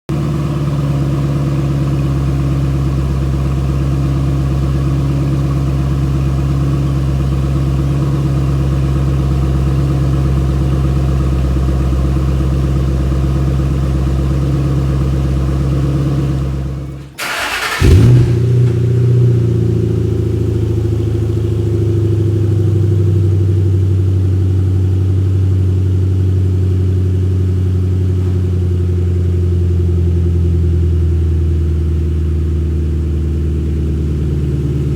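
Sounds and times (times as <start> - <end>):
car engine idling: 0.1 - 34.9
car engine starting with flare: 0.2 - 34.9.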